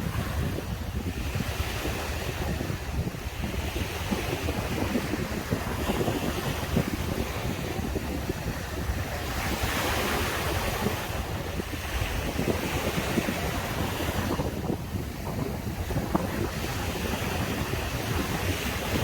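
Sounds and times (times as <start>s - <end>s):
surf breaking on beach: 0.0s - 19.0s
wind rumbling on microphone: 0.0s - 19.0s.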